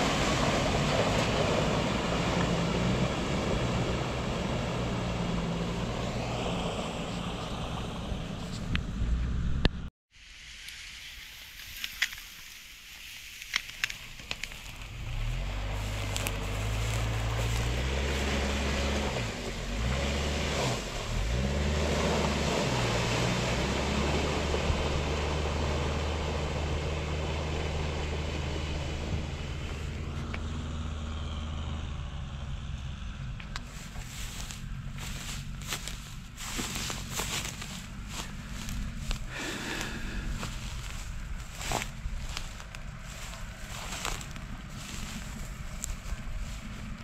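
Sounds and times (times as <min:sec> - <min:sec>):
suv engine revving: 0:00.0 - 0:09.8, 0:14.7 - 0:47.0.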